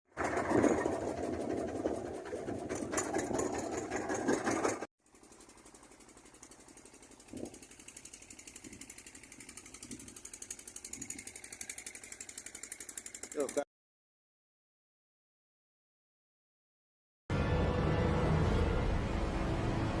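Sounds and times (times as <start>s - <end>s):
engine running: 0.1s - 13.6s, 17.3s - 20.0s.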